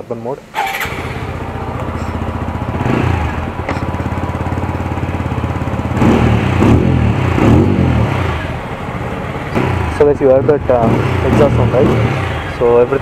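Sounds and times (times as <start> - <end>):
motorcycle engine idling and revving: 0.6 - 13.0.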